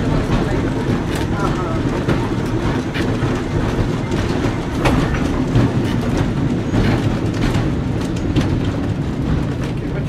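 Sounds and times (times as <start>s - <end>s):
streetcar wheels rumbling: 0.0s - 10.0s
wheels clicking over rails: 0.0s - 10.0s.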